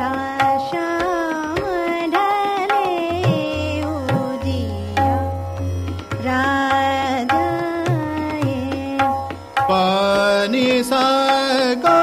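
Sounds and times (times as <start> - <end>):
tabla: 0.0 - 12.0.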